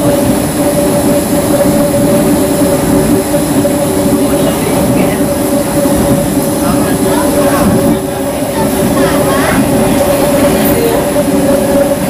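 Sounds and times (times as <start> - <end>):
train motor humming: 0.0 - 12.0.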